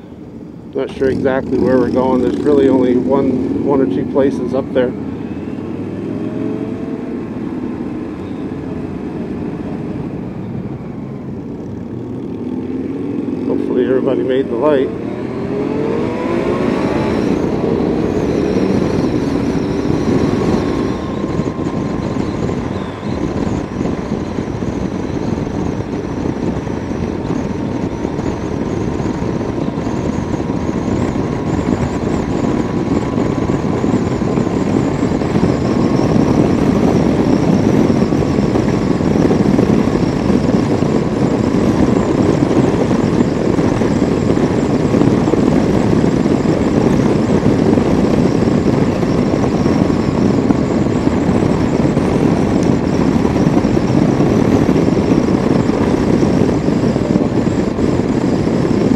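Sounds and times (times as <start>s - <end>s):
motorcycle engine running: 0.0s - 58.9s
rush of wind: 0.0s - 58.9s.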